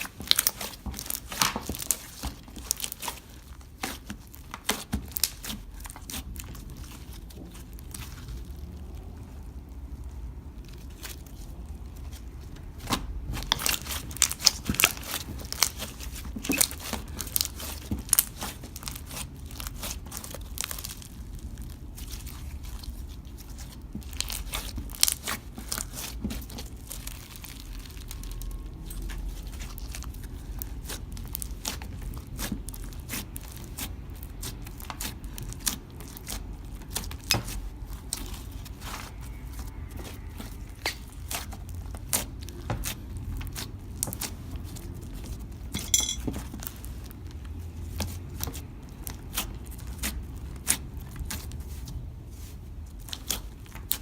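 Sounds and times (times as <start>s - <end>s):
slime squishing with sticky pops: 0.0s - 54.0s.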